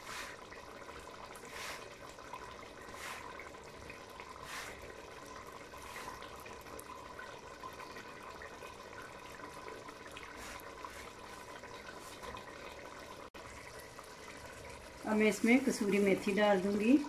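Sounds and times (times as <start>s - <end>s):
curry simmering in a pot: 0.0s - 17.0s.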